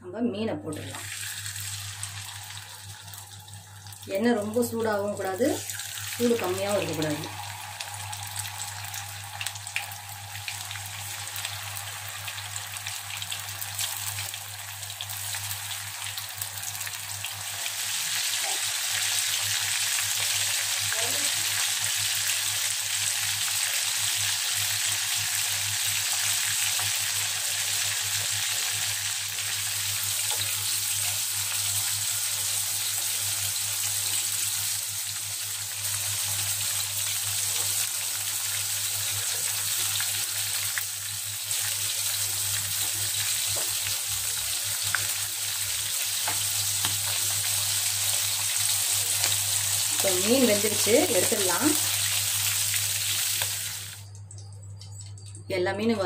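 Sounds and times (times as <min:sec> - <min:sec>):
fish sizzling in hot oil: 0:00.8 - 0:55.3.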